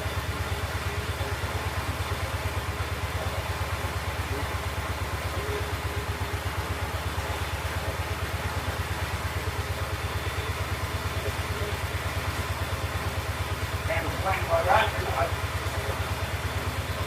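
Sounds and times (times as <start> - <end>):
single-cylinder engine putting: 0.0 - 17.0.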